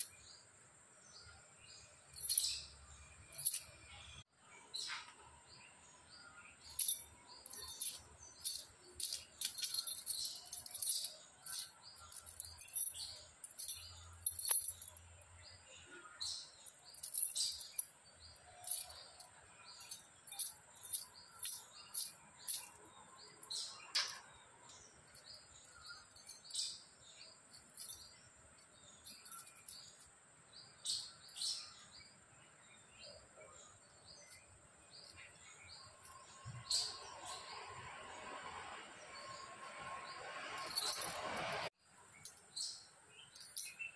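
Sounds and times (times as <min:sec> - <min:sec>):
small birds chirping: 0:00.0 - 0:38.1, 0:40.0 - 0:43.9.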